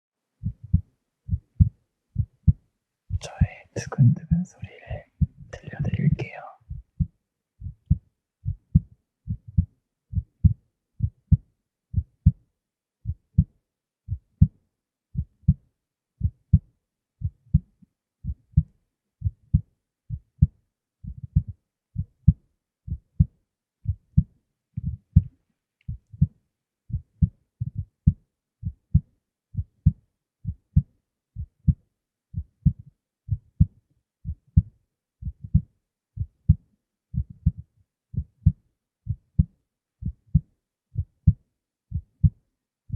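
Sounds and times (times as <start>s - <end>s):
human heartbeat: 0.4s - 42.9s.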